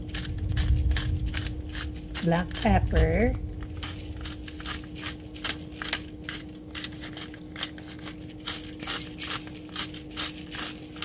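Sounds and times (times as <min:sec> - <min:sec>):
pepper grinder crunching clicks: 0:00.0 - 0:11.0.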